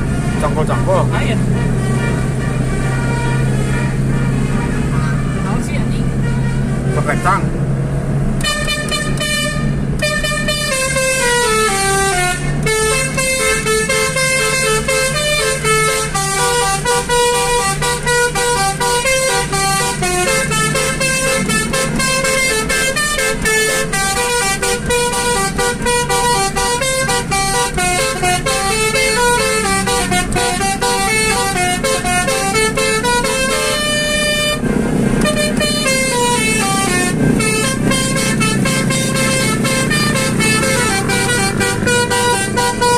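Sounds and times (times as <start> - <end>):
musical air horns playing melody: 0.2 - 7.4, 8.4 - 42.9.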